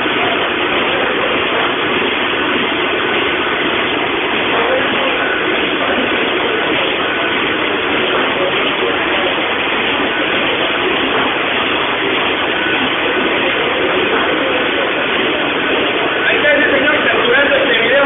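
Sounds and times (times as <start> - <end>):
printing press running: 0.0 - 18.0.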